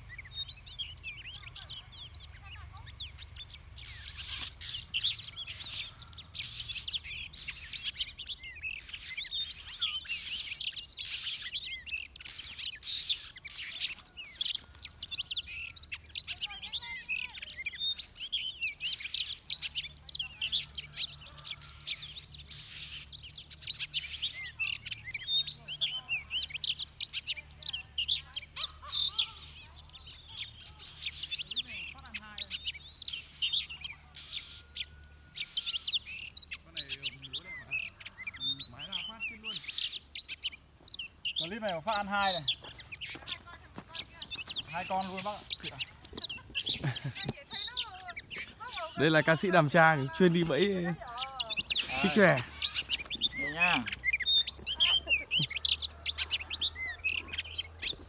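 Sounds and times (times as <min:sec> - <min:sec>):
birds singing and calling: 0:00.0 - 0:58.0.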